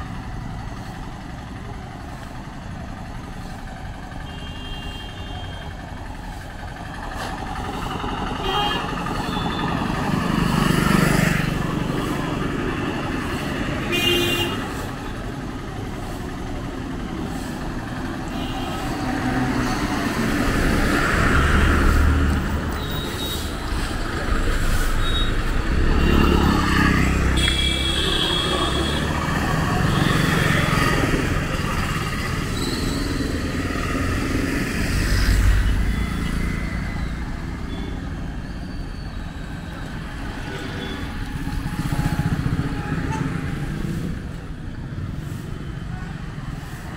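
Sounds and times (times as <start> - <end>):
motor vehicles passing: 5.8 - 46.9.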